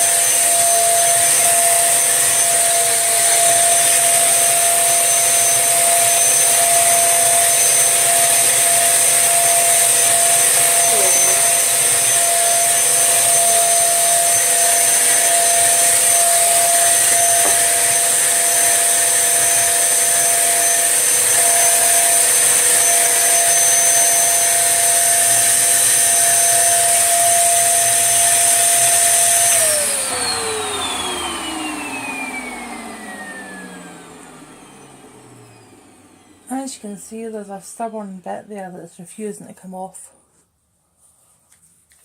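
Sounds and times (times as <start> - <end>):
vacuum cleaner whining: 0.0 - 38.8.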